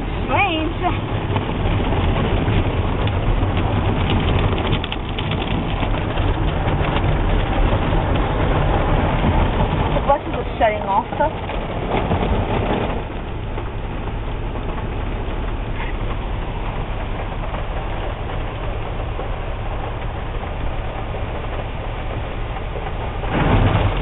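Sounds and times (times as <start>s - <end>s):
car wash machinery rumble: 0.0s - 24.0s
low hum: 0.0s - 24.0s.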